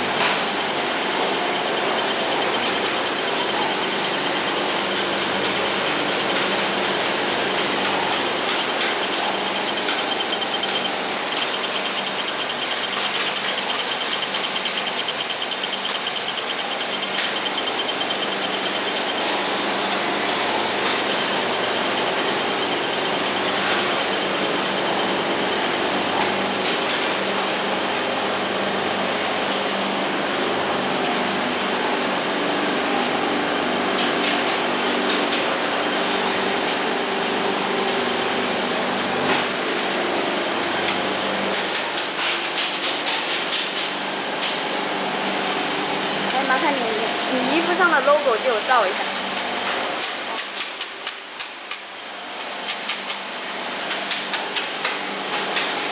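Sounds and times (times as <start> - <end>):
machines whirring with high whine: 0.0 - 55.9.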